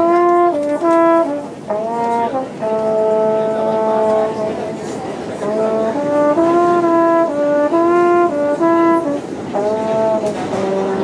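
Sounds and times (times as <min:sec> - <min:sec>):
trombone tune: 0:00.0 - 0:11.0.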